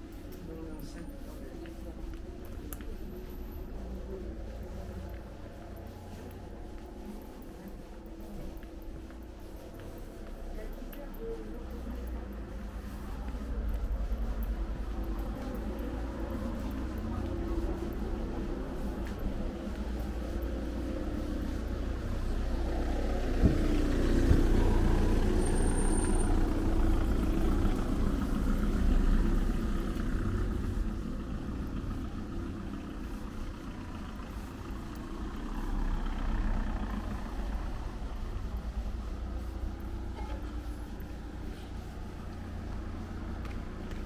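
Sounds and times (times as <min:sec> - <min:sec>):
car passing slowly: 0:00.0 - 0:44.0.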